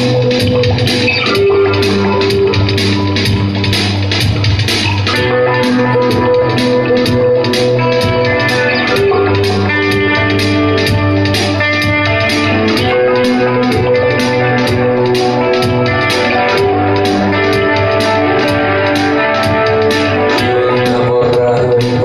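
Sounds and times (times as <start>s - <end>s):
electric guitar held notes: 0.0s - 22.0s
high ticking: 0.0s - 22.0s
steady drum beat: 0.0s - 22.0s
sustained low bass: 0.0s - 22.0s.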